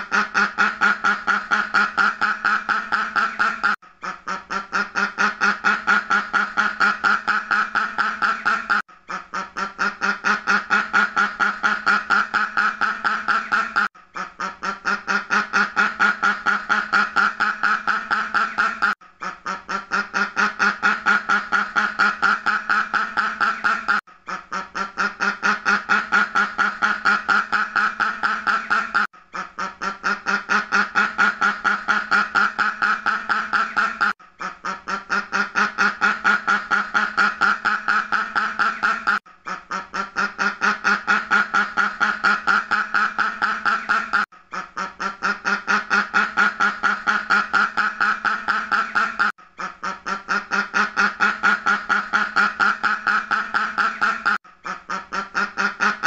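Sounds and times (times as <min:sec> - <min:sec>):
duck quacking: 0:00.0 - 0:56.0.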